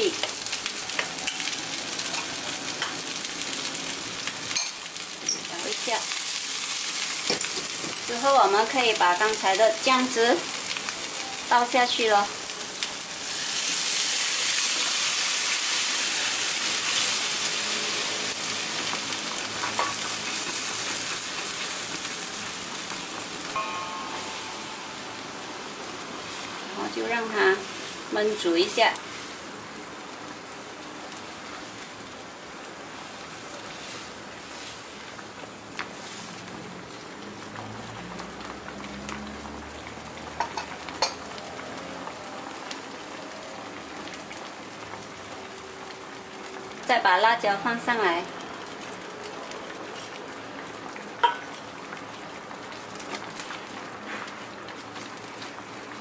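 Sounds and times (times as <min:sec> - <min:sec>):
sauce sizzling in a frying pan: 0:00.0 - 0:56.0.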